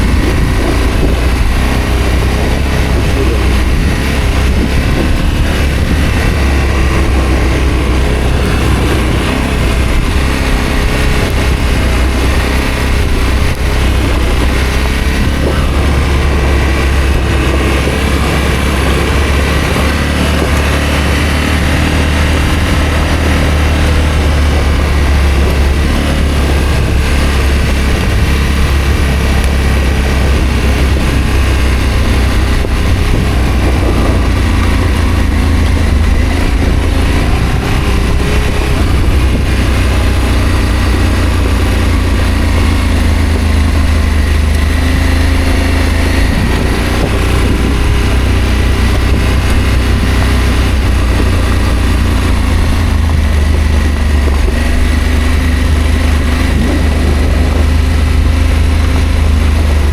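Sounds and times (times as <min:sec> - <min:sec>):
heavy low rumble: 0:00.0 - 0:59.9
motorcycle engine running: 0:00.0 - 0:59.9.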